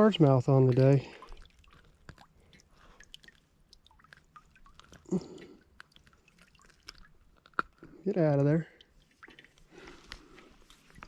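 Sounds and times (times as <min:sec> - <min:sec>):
wet clicks and squishes: 0:00.0 - 0:11.0.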